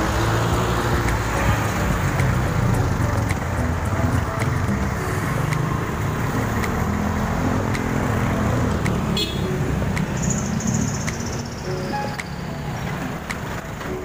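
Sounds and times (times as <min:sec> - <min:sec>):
road noise: 0:00.0 - 0:14.0
vehicles passing at low speed: 0:00.0 - 0:14.0.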